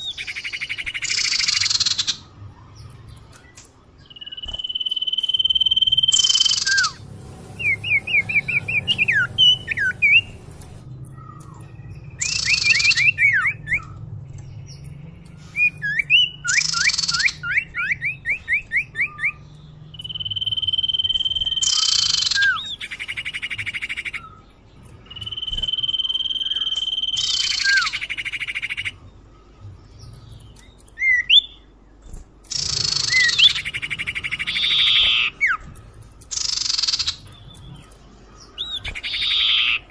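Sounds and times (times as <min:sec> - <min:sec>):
rapid rising bird chirps: 0:00.0 - 0:39.9.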